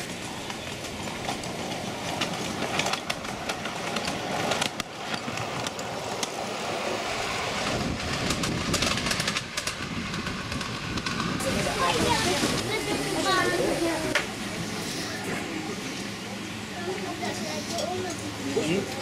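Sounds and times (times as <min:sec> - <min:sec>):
miniature steam locomotive running: 0:00.0 - 0:19.0
wheels clicking over rail joints: 0:00.0 - 0:19.0.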